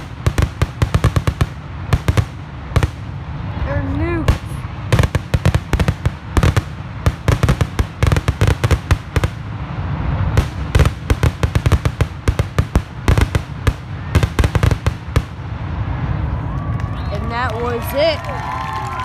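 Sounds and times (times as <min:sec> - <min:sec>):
fireworks banging and crackling: 0:00.0 - 0:19.0.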